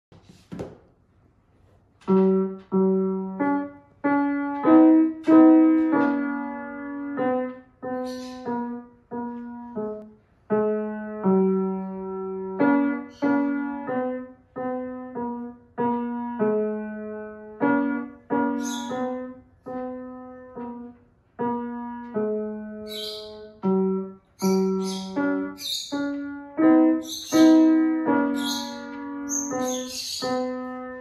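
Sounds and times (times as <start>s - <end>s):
slow grand piano piece: 1.0s - 31.0s.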